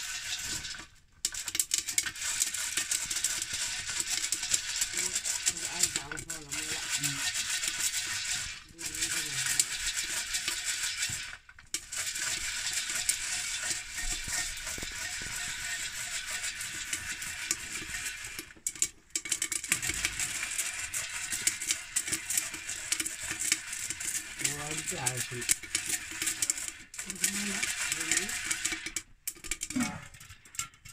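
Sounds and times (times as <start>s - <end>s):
maize kernels rattling in a pot: 0.0s - 30.9s.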